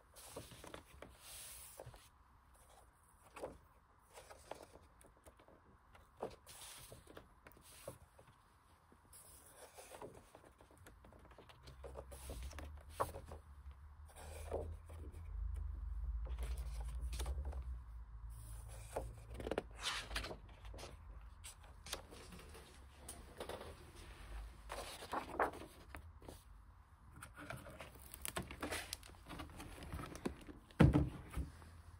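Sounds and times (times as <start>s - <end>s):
book pages rustling: 0.1s - 17.8s, 18.4s - 31.9s.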